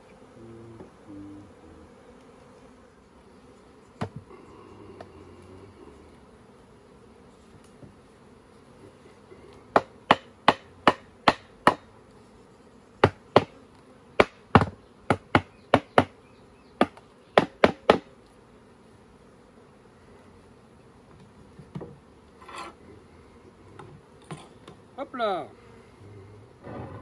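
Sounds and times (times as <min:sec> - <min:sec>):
bees buzzing faintly: 0:00.0 - 0:27.0.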